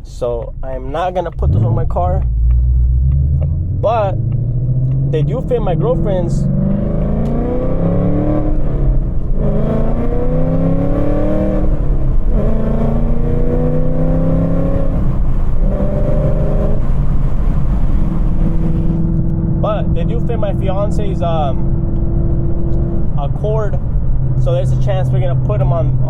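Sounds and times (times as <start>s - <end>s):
car engine accelerating hard: 1.2s - 26.0s.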